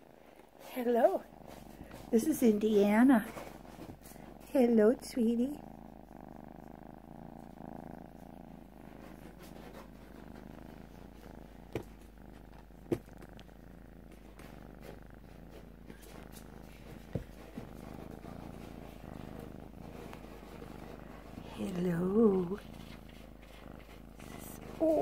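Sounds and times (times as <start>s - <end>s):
kitten purring: 0.0s - 25.0s.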